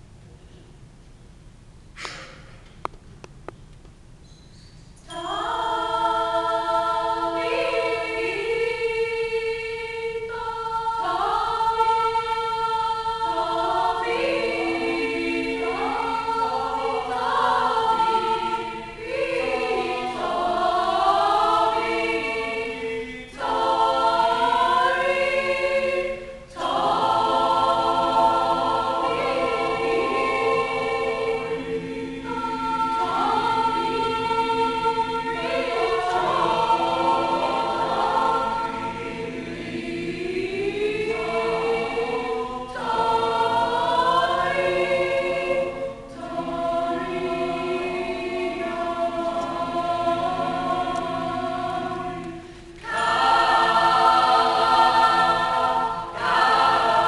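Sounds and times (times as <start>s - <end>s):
mixed choir singing in harmony: 5.0s - 57.0s.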